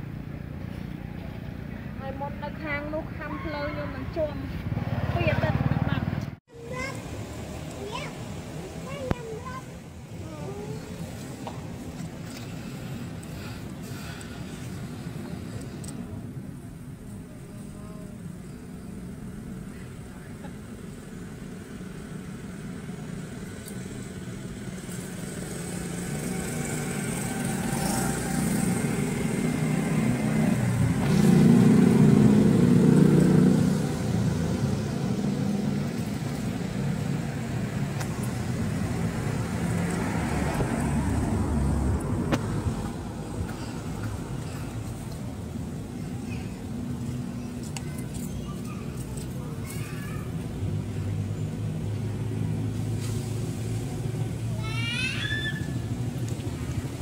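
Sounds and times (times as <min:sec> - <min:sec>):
vehicle engine passing by: 0:00.0 - 0:16.2, 0:17.6 - 0:57.0.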